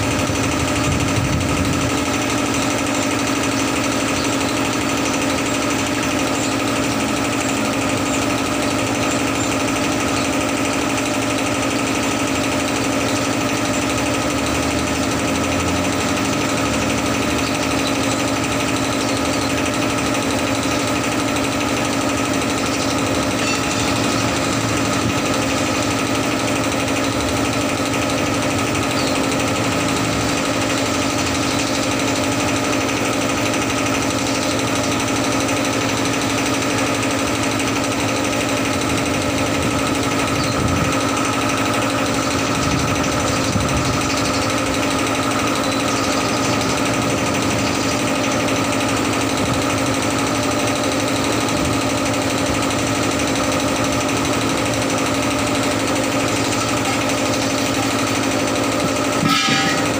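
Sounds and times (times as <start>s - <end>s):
machine humming and rattling: 0.0s - 59.9s.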